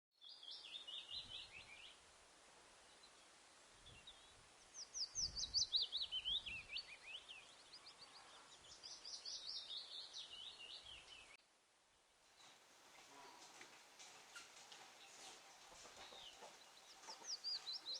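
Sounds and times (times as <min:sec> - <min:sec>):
faint steady hiss: 0:00.2 - 0:17.9.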